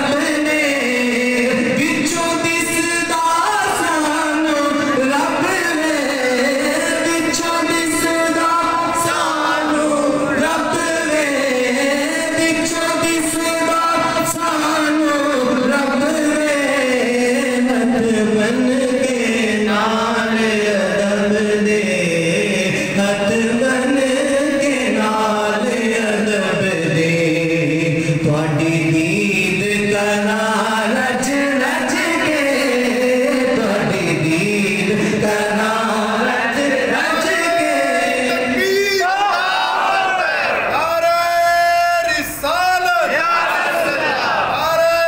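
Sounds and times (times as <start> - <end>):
man singing unaccompanied: 0.0 - 39.0.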